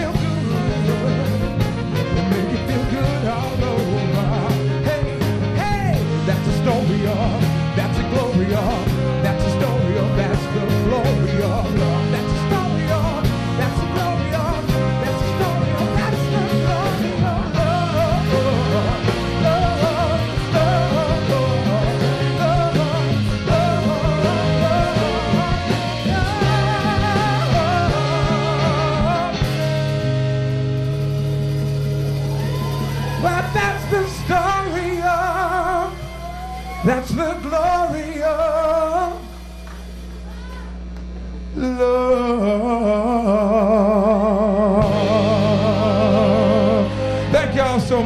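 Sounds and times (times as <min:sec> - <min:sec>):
man singing long note with vibrato: 0:00.0 - 0:30.6, 0:33.0 - 0:39.4, 0:41.5 - 0:48.0
live soul band playing: 0:00.0 - 0:40.5, 0:44.7 - 0:48.0.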